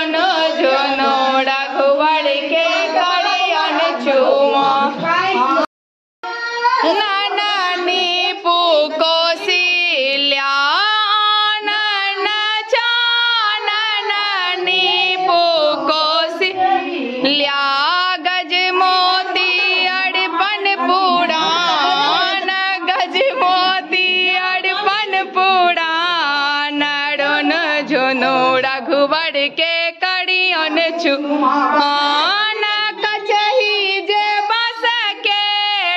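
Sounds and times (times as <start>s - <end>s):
woman singing: 0.0s - 35.9s.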